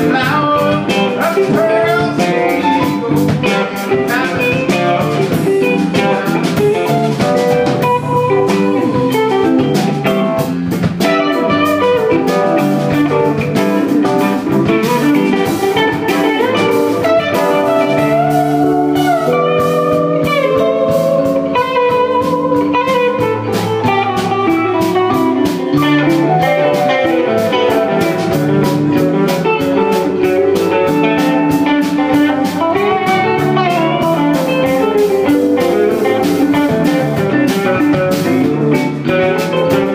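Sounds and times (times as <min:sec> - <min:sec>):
bass: 0:00.0 - 0:39.9
drum kit: 0:00.0 - 0:39.9
electric guitars: 0:00.0 - 0:39.9
keyboard: 0:00.0 - 0:39.9.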